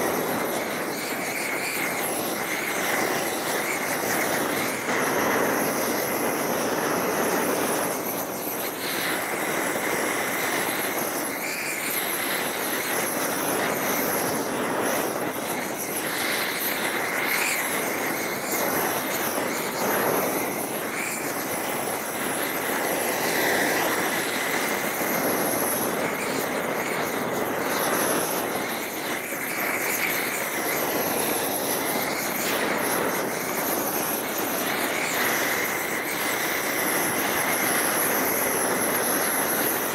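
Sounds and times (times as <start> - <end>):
propane torch hissing: 0.0 - 39.9.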